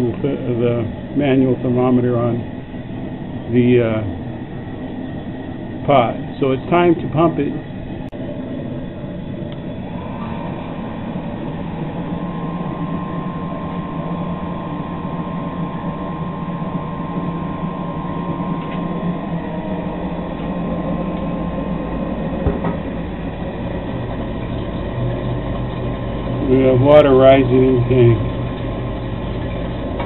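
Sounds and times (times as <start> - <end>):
electric pump humming and whining: 0.0 - 30.0.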